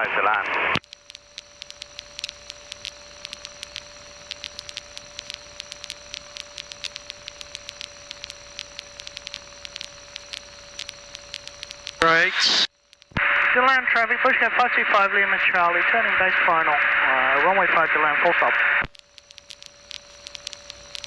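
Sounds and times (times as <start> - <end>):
low hiss: 0.0 - 21.0
static crackling clicks: 0.0 - 21.0
steady humming tone: 0.5 - 18.2, 18.8 - 21.0.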